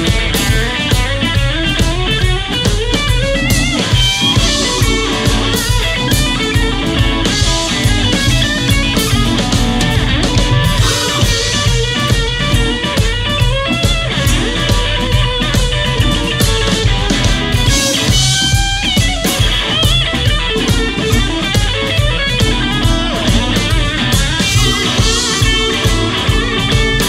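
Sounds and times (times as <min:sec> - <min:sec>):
drum kit: 0:00.0 - 0:27.0
electric bass: 0:00.0 - 0:27.0
lead guitar soloing: 0:00.0 - 0:27.0.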